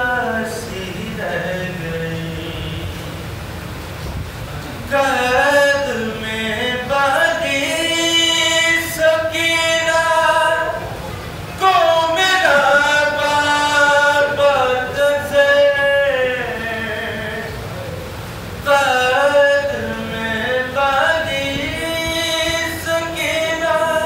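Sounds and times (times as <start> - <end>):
man chanting a mournful lament: 0.0 - 3.1, 4.6 - 24.0.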